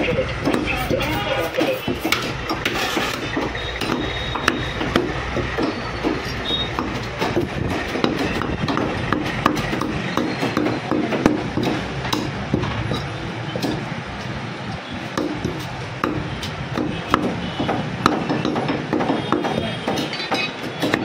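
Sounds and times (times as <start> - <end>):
steady background noise: 0.0 - 21.0
cleaver chopping on wooden block: 0.3 - 0.8, 1.8 - 13.9, 15.0 - 21.0.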